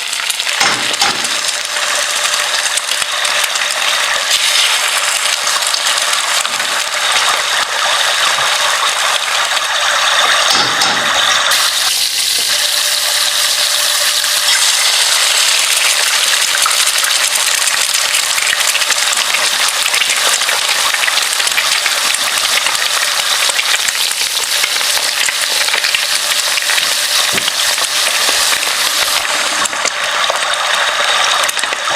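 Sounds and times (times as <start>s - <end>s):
food sizzling in a hot pan: 0.0s - 31.9s.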